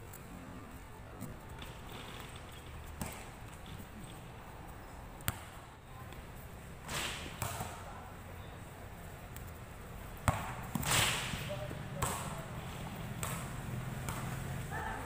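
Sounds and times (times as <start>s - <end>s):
faint open-air background: 0.0s - 15.0s.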